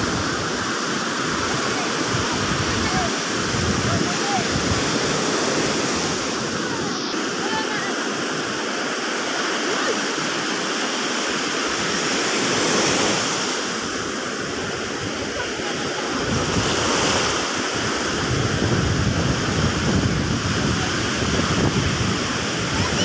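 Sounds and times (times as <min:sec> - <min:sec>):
wind on microphone: 0:00.0 - 0:08.9, 0:11.5 - 0:23.0
ocean waves breaking: 0:00.0 - 0:23.0.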